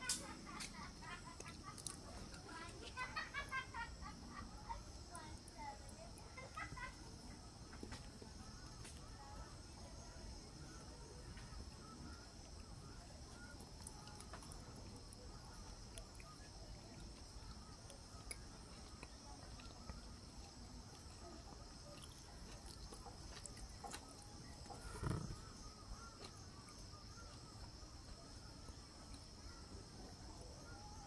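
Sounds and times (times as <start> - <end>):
faint bird chirps: 0.0 - 31.0
insects chirring: 0.0 - 31.0.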